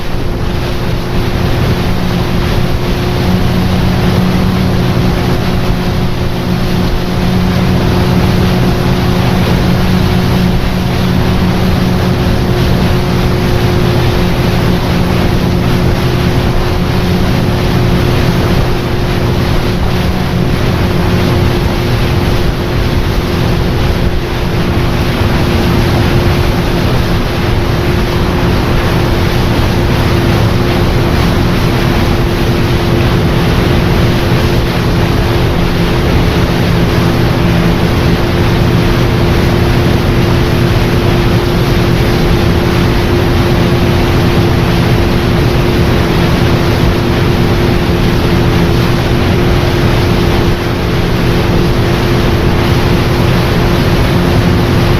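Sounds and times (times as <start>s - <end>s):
boat motor humming: 0.0s - 54.9s
rush of wind and water: 0.0s - 54.9s.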